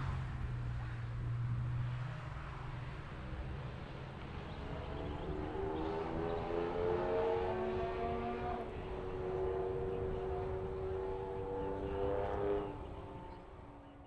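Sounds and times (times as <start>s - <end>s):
distant car engine accelerating: 1.6s - 14.0s.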